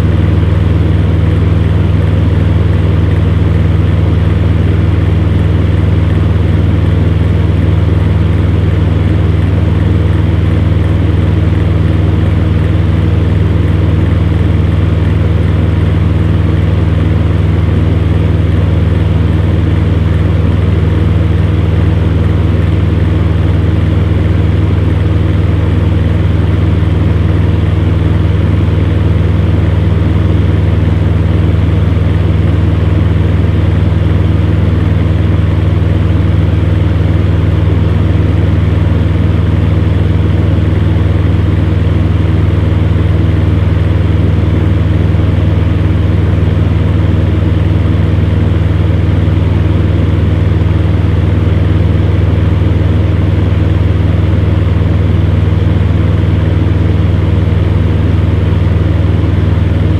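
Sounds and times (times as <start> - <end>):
fan heater motor hum: 0.0 - 59.9.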